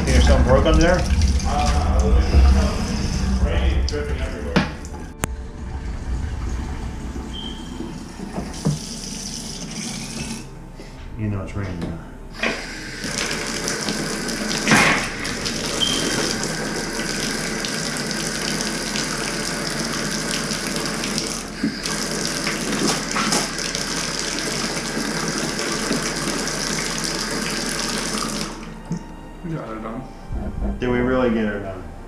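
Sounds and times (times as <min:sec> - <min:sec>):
water running into a bathtub: 0:00.0 - 0:05.2, 0:05.9 - 0:10.5, 0:12.3 - 0:29.0.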